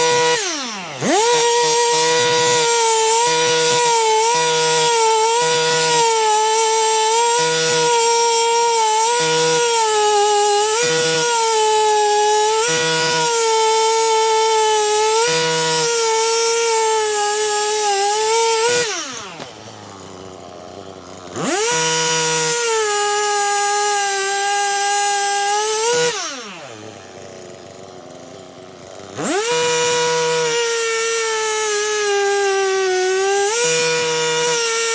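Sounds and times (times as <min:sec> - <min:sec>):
chainsaw running: 0:00.0 - 0:34.9.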